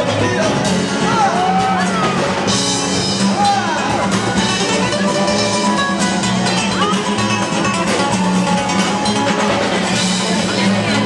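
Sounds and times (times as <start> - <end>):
dance music with guitar: 0.0 - 11.0.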